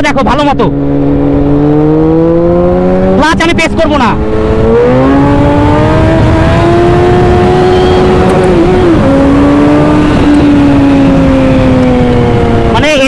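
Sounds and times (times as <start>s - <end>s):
motorcycle engine accelerating: 0.3s - 13.0s.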